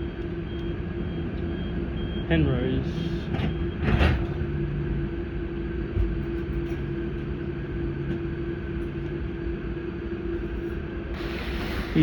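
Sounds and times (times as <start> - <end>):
electric train equipment hum: 0.0 - 12.0.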